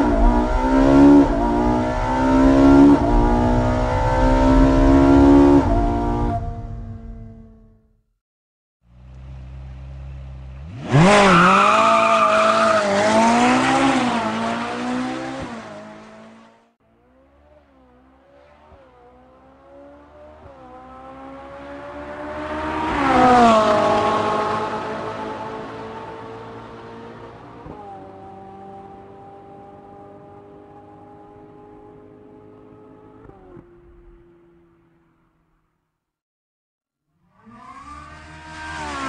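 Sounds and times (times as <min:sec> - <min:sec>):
sports car engine accelerating: 0:00.0 - 0:08.0, 0:08.9 - 0:35.6, 0:37.2 - 0:39.0.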